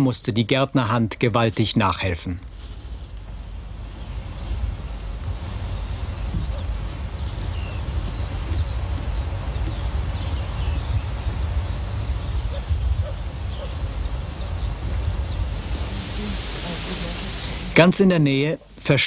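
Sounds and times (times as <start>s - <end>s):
small birds chirping: 0.0s - 18.8s
wind rumbling on microphone: 2.4s - 17.8s.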